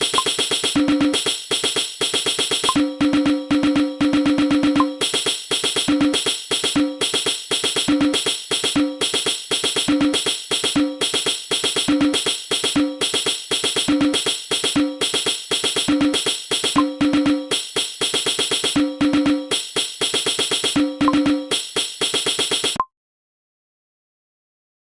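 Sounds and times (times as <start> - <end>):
hand drum percussion rhythm: 2.3 - 17.6, 18.2 - 22.8.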